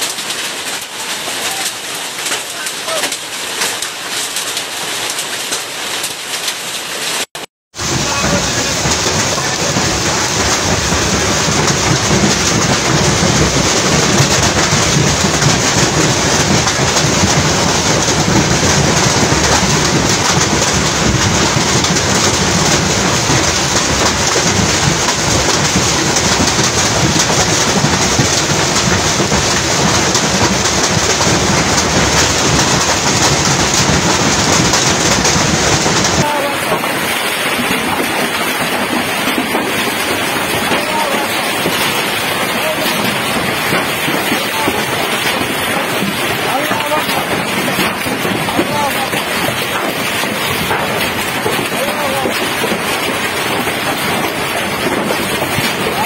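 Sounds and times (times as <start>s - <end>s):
hail and rain pelting down: 0.0s - 56.0s.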